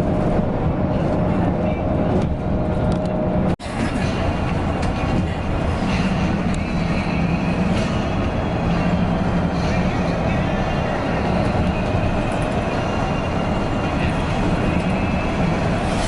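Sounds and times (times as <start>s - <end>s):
bus engine hum: 0.0s - 16.0s
road rumble: 0.0s - 16.0s.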